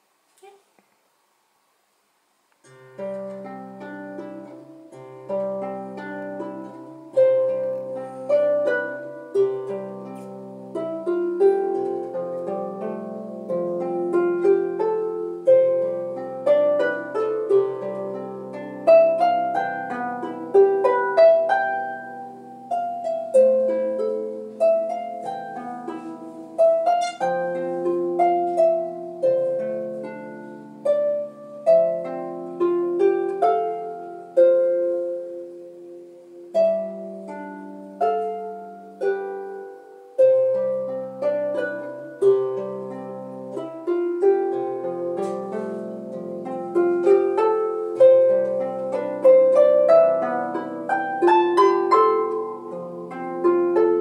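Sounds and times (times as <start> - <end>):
harp plucked melody: 2.6 - 54.0.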